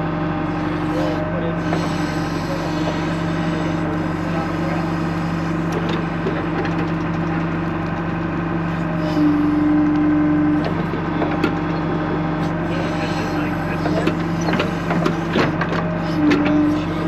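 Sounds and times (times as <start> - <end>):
backhoe engine running: 0.0 - 17.0
loud steady whine: 0.0 - 17.0.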